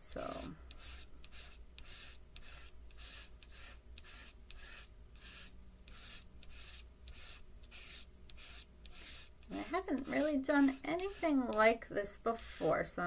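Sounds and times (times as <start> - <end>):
chalk pastel stroking paper: 0.2 - 13.0.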